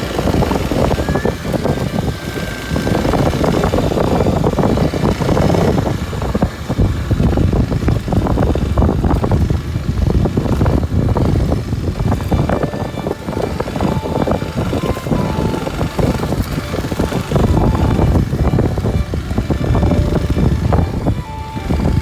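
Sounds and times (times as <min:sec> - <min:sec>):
motorcycle engine running: 0:00.0 - 0:22.0
tyres rumbling on rough road: 0:00.0 - 0:22.0.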